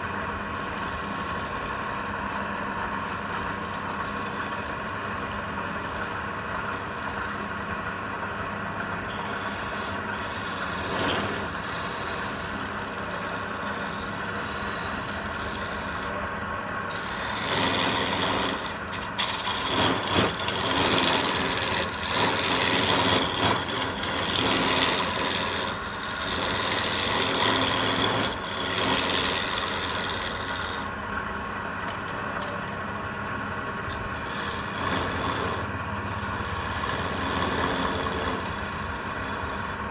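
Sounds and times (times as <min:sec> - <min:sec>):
tool scratching spinning wood: 0:00.0 - 0:31.0, 0:33.9 - 0:39.9
lathe motor hum: 0:00.0 - 0:39.9.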